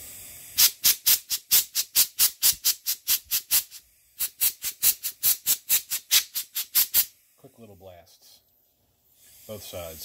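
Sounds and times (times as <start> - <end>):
compressed air blow gun blasts: 0.0 - 7.5, 9.1 - 10.0.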